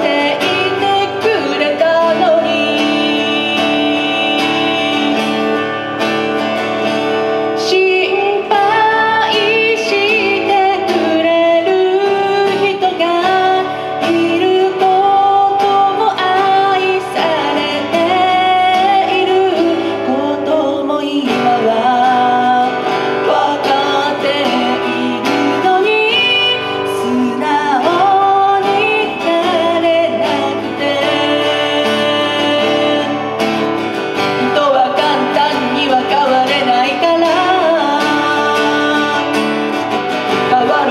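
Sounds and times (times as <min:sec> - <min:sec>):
acoustic guitar: 0:00.0 - 0:40.9
woman singing: 0:00.0 - 0:40.9.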